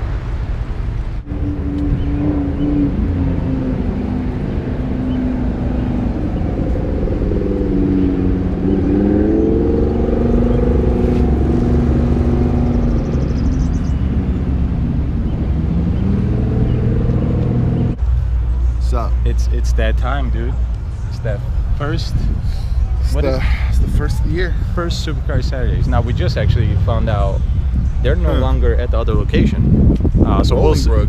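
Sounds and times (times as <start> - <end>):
road noise: 0.0 - 31.0
car engine accelerating: 1.1 - 31.0.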